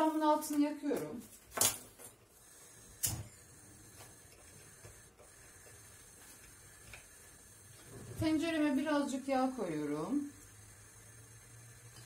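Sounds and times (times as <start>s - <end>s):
gas burner hissing: 2.3s - 12.0s.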